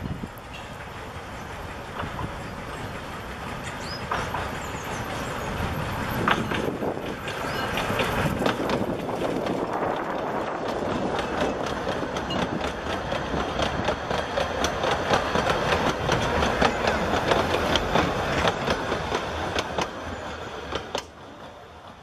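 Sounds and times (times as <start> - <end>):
steam locomotive passing: 0.0 - 22.0
train wheels rumbling on track: 0.0 - 22.0
wheels clicking over rail joints: 0.2 - 22.0.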